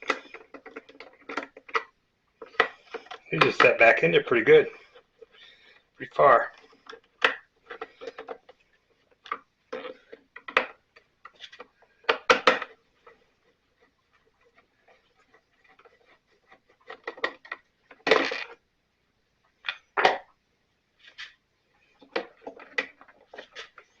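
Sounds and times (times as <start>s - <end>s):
plastic parts clicking and knocking: 0.0s - 18.7s, 19.5s - 20.4s, 21.1s - 24.0s.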